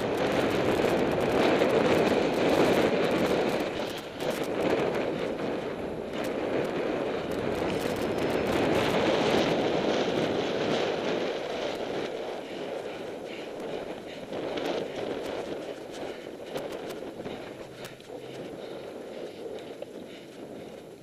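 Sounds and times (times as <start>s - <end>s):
bike rattling clicks: 0.0s - 10.0s, 11.6s - 20.8s
wind rushing over microphone: 0.0s - 21.0s.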